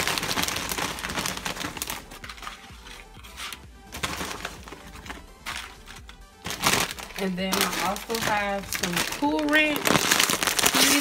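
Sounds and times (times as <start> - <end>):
foil bag crinkling: 0.0 - 11.0.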